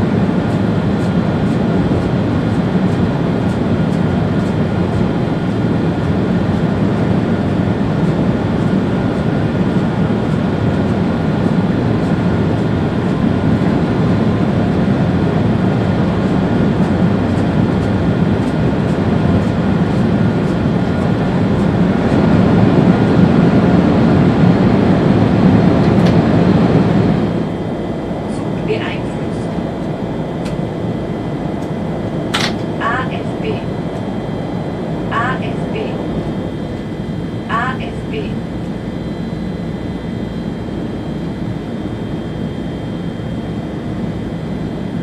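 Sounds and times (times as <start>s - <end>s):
faint steady whine: 0.0s - 45.0s.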